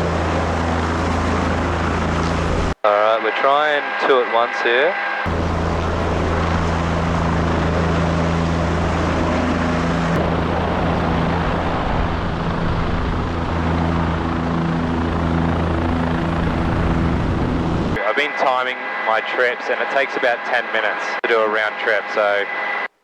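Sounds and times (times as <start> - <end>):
helicopter rotor and engine: 0.0 - 22.9.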